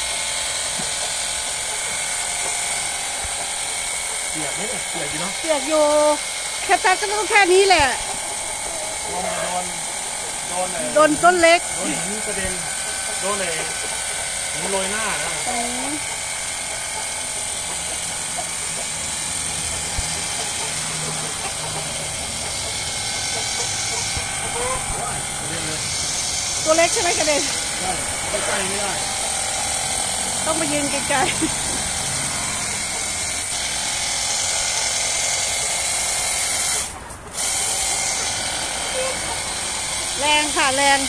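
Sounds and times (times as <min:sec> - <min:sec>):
water jet hissing: 0:00.0 - 0:36.9
water gun pump motor humming: 0:00.0 - 0:41.0.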